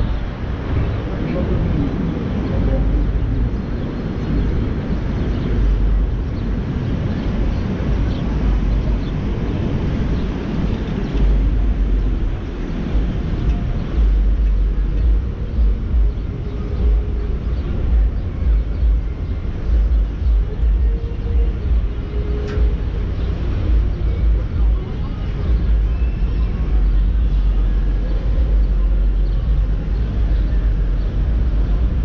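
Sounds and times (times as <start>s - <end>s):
car road noise rumble: 0.0s - 32.0s.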